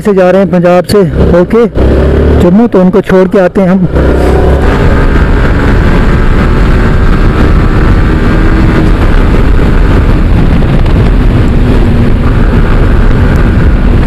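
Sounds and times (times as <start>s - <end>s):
motorcycle engine running: 0.0s - 2.9s, 3.8s - 14.0s
wind rush on microphone: 0.0s - 2.9s, 3.8s - 14.0s.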